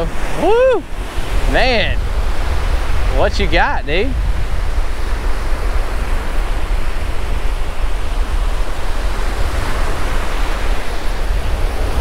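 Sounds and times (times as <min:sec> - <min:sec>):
waves breaking on beach: 0:00.0 - 0:12.0
wind rumble on microphone: 0:00.0 - 0:12.0.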